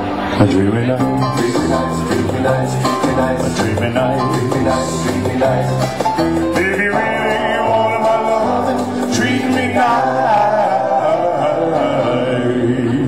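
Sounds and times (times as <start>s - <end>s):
live band music: 0.0s - 12.8s
bass line: 0.0s - 13.0s
man singing long notes: 0.3s - 13.0s.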